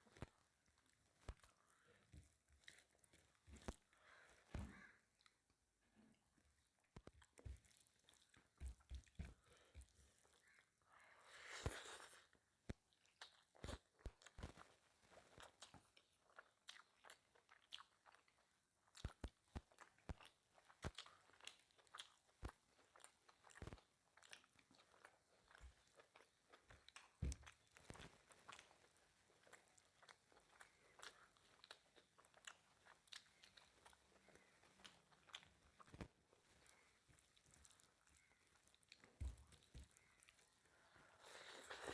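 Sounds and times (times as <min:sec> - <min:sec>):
person chewing food: 0:00.0 - 0:05.5, 0:06.6 - 0:10.8, 0:11.4 - 0:41.9.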